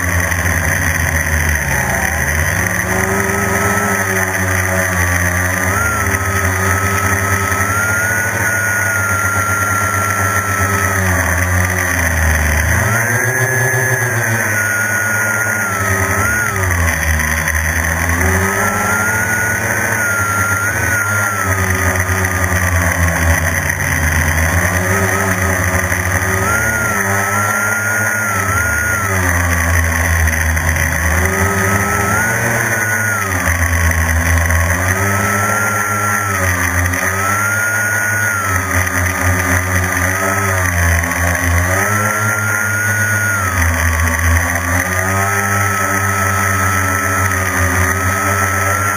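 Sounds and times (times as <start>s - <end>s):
drone propellers whining: 0.0s - 48.9s.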